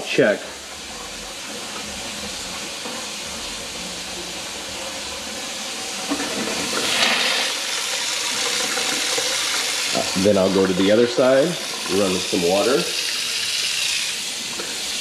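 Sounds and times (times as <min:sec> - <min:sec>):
water running down sink drain: 0:00.0 - 0:15.0.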